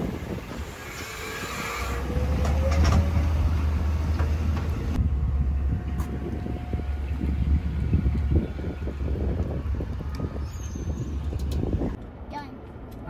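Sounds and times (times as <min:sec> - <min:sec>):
diesel garbage truck engine: 0:00.0 - 0:12.0.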